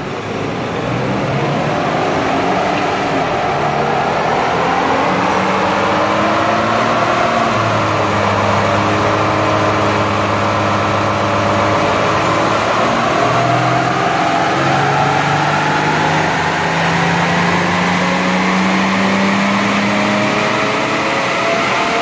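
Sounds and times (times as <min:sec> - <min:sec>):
vehicle engine accelerating under load: 0:00.0 - 0:22.0.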